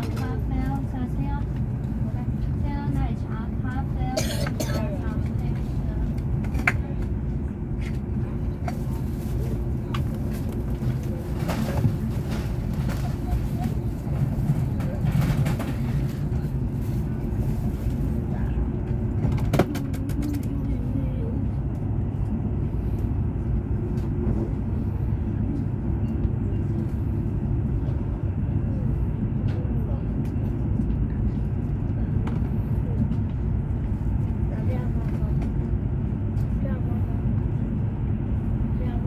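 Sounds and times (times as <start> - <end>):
high-speed train low rumble: 0.0 - 39.0.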